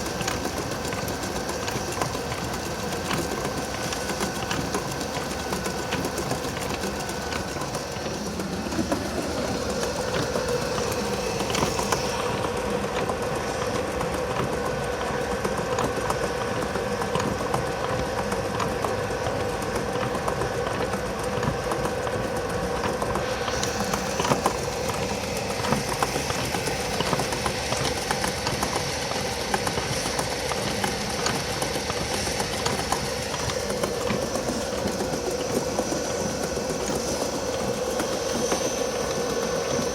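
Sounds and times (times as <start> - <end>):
washing machine mechanical clatter: 0.0 - 39.9.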